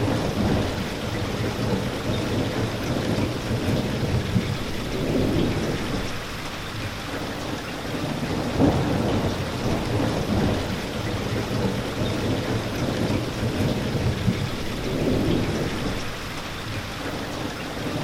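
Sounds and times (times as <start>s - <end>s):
thunder rumble: 0.0s - 6.8s, 8.0s - 16.7s
rain falling: 0.0s - 18.0s.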